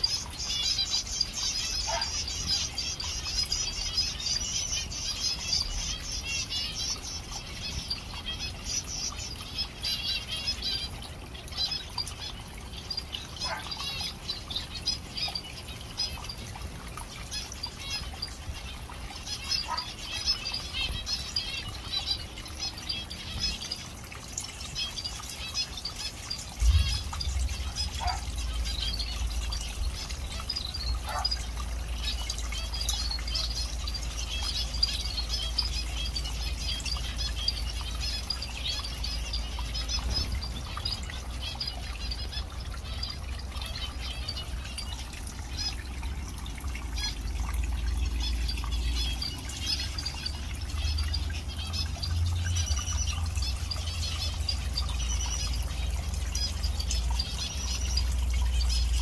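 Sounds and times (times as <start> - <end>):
finches chirping and chattering: 0.0 - 59.0
small waterfall trickling: 0.0 - 59.0.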